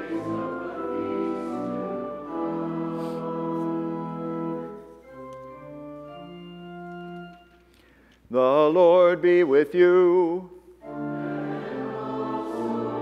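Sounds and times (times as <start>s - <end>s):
church organ chords: 0.0s - 7.8s, 8.4s - 13.0s.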